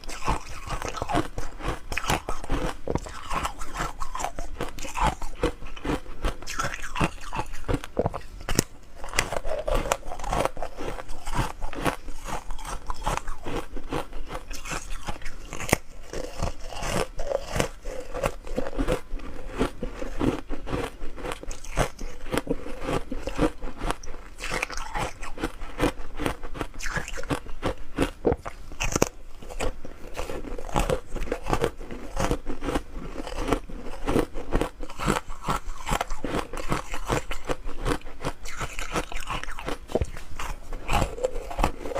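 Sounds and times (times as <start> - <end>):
ice crunching while chewed: 0.0 - 41.9.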